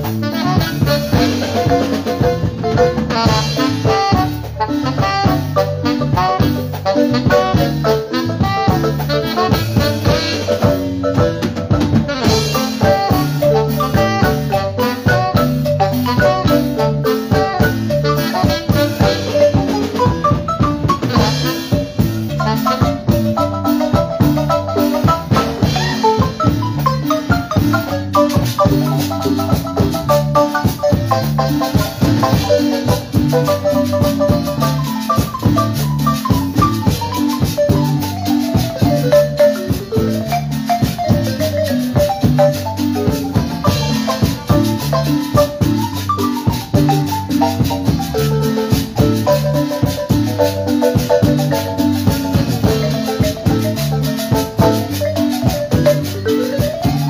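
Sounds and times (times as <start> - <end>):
drum kit: 0.0 - 57.0
electric bass: 0.0 - 57.0
marimba melody: 0.0 - 57.0
metal guiro scraping: 0.0 - 57.0.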